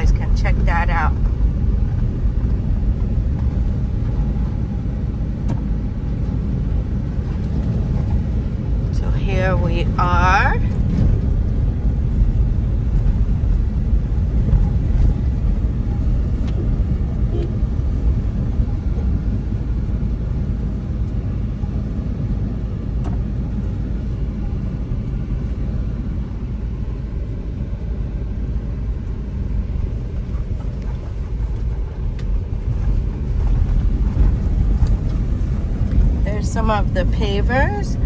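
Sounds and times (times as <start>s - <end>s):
car interior driving rumble: 0.0s - 38.0s.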